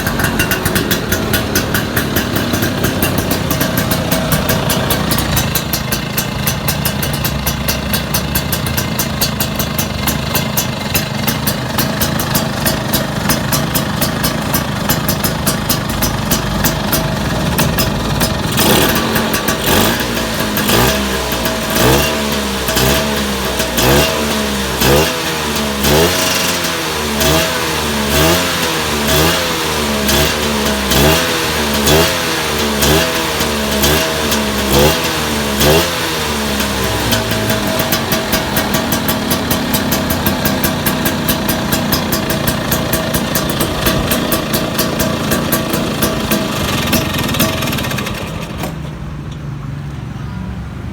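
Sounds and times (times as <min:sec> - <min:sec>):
engine revving: 0:00.0 - 0:48.9
scooter engine running: 0:00.0 - 0:49.6.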